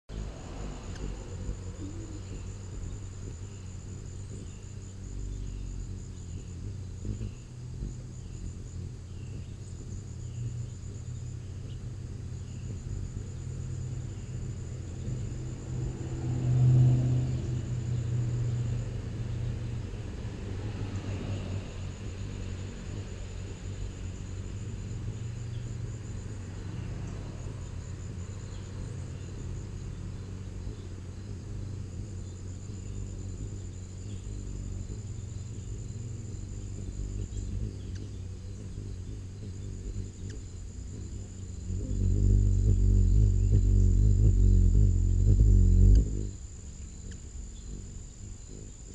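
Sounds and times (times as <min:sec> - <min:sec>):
low outdoor rumble: 0:00.0 - 0:48.9.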